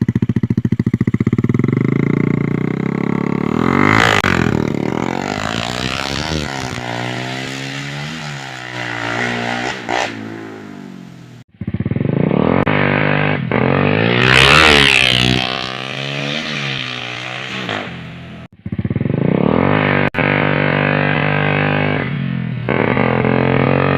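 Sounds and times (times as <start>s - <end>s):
motorcycle engine revving: 0.0s - 23.9s.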